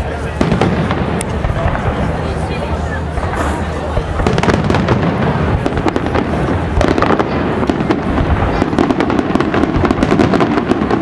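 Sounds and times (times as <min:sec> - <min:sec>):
continuous low rumble: 0:00.0 - 0:11.0
fireworks bangs and crackling: 0:00.0 - 0:11.0.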